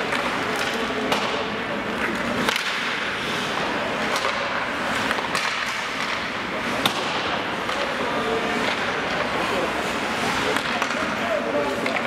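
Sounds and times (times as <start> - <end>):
hockey sticks clacking on puck: 0.0 - 12.0
murmur of spectators: 0.0 - 12.0
skates scraping on ice: 0.0 - 12.0.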